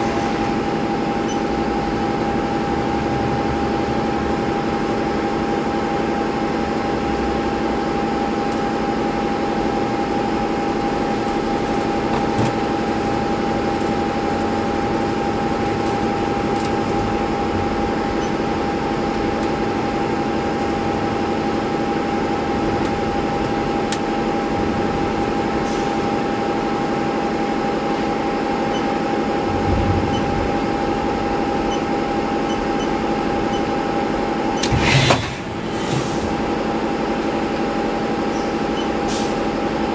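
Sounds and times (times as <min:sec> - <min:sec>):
lathe machine hum and whine: 0:00.0 - 0:39.9.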